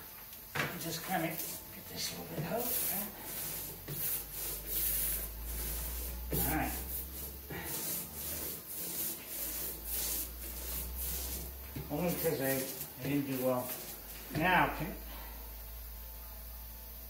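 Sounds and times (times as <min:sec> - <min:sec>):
hand roller rubbing swish: 0:00.8 - 0:15.0.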